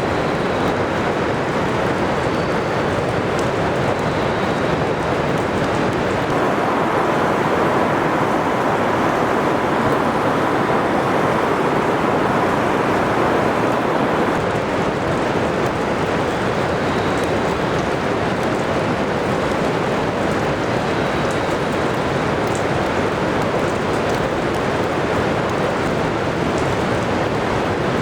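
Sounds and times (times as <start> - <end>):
heavy rain downpour: 0.0 - 28.0.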